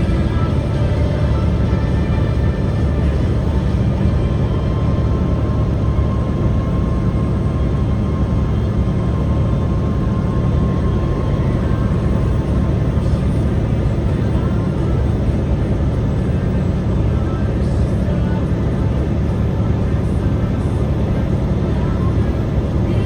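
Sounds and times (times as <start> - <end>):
truck engine and road rumble: 0.0 - 23.0.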